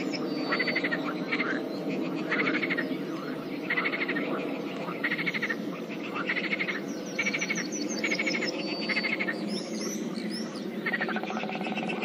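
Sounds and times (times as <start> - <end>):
frogs croaking chorus: 0.0 - 12.0
small birds chirping: 0.0 - 12.0.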